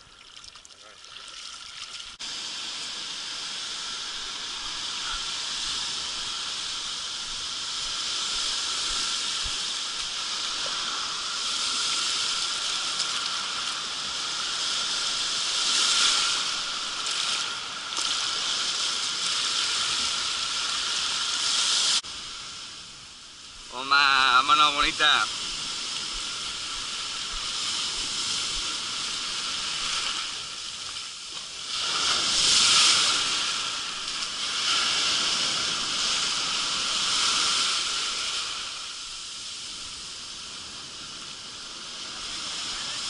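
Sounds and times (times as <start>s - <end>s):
waves washing over shingle: 1.1s - 23.0s, 23.7s - 43.0s.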